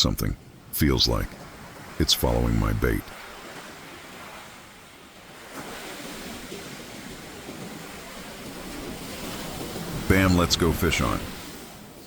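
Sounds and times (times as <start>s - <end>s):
ocean surf washing on beach: 0.0s - 12.0s.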